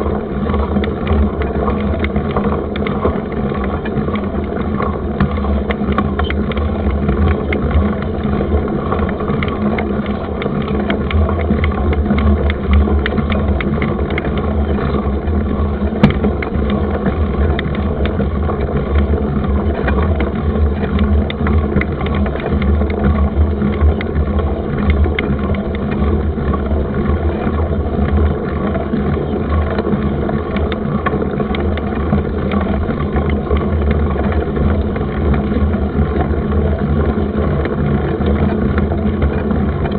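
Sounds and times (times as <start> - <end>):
bike rattling and knocking: 0.0 - 39.9
wind rumbling over microphone: 0.0 - 39.9.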